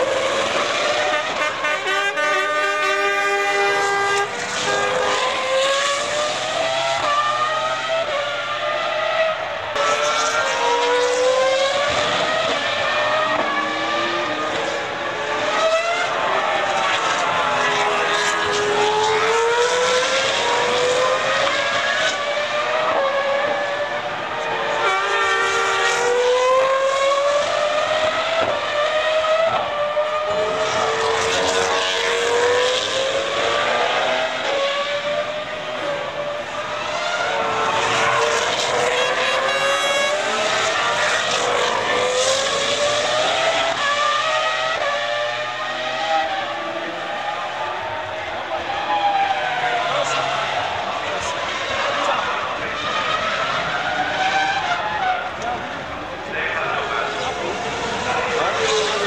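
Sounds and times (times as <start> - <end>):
racing car engines at high revs: 0.0 - 59.0.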